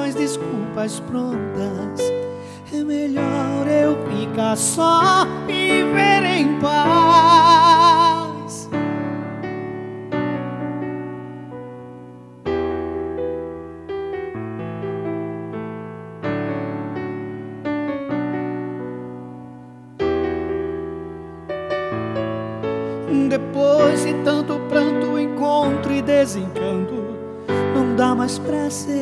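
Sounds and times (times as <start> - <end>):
electronic keyboard piano chords: 0.0 - 29.0.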